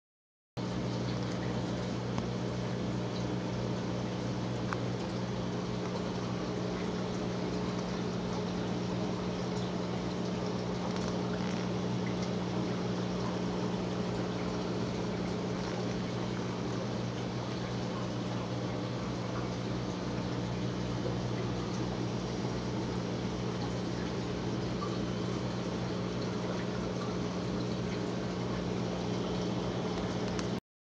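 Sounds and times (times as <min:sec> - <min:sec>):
electrical hum: 0:00.6 - 0:30.6
water trickling and bubbling: 0:00.6 - 0:30.6.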